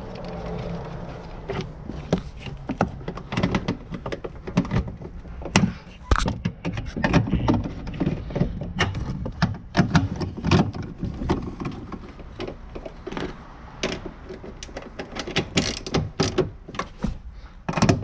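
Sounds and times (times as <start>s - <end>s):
hand tools clicking and knocking: 0.0s - 18.0s.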